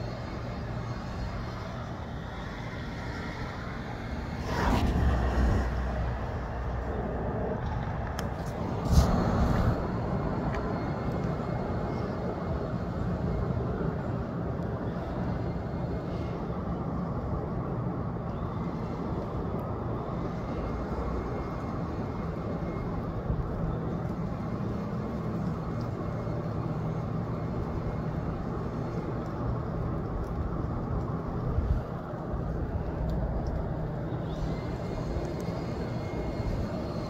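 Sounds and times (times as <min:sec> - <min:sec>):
faint steady hum: 0:00.0 - 0:37.0
low outdoor rumble: 0:00.0 - 0:37.0.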